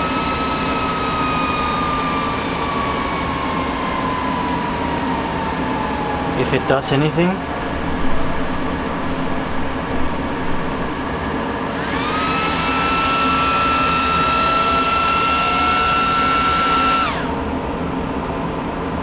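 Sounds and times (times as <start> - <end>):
hum of servers: 0.0 - 19.0
server fans whining: 0.0 - 19.0.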